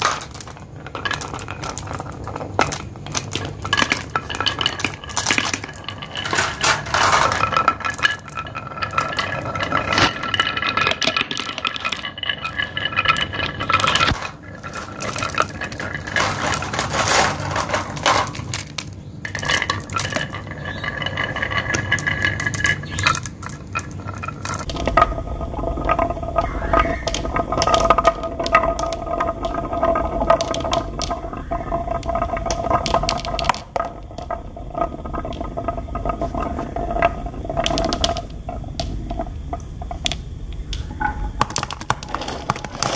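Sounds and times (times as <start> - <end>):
marbles clinking: 0.0 - 42.9
marbles rolling on wooden run: 0.0 - 42.9.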